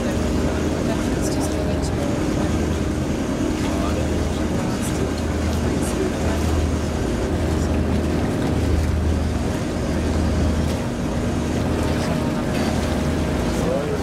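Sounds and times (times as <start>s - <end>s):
boat diesel engine humming: 0.0s - 14.0s.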